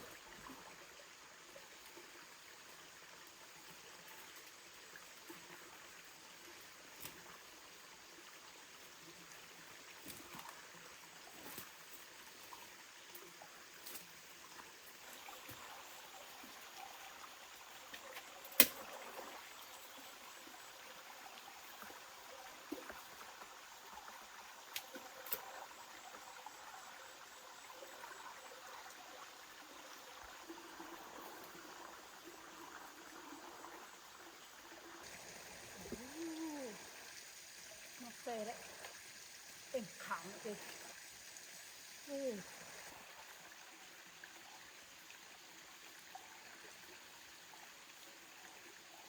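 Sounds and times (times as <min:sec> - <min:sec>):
running water: 0:00.0 - 0:49.0.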